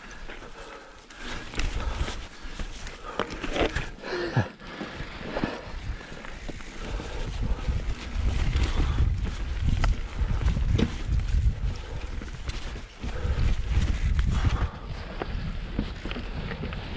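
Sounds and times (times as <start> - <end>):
bike knocking and rattling over bumps: 0.0 - 16.9
bike tyres rolling on dirt trail: 0.0 - 16.9.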